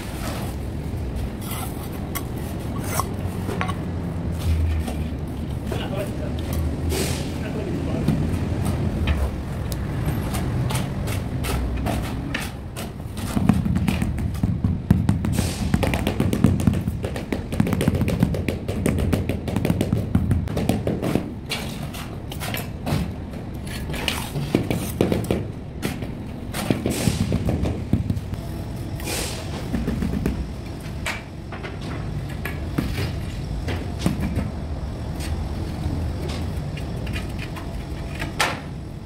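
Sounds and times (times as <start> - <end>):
worksite background noise: 0.0 - 39.0.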